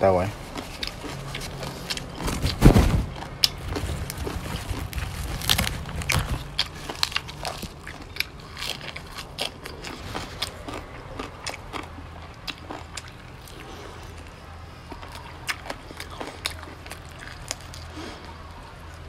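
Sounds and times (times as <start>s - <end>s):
chewing crisp leafy greens: 0.0s - 19.0s.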